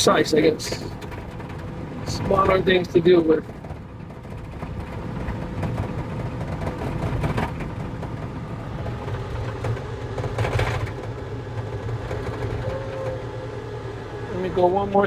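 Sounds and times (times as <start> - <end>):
machine rattles: 0.0 - 13.7
diesel engine running: 0.0 - 15.0.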